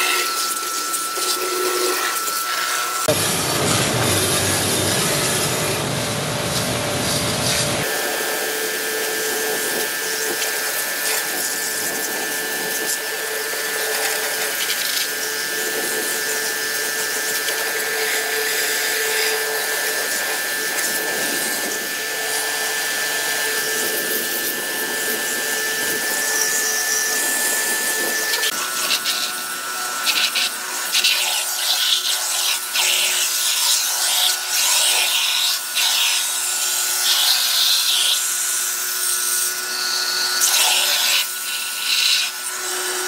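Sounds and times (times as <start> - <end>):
small machine motor whine: 0.0 - 43.0.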